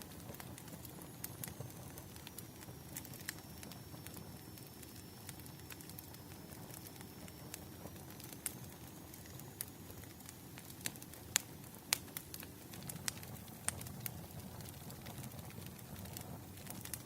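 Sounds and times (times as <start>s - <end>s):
firewood crackling and popping: 0.0s - 17.0s
low rustle of flame: 0.0s - 17.0s.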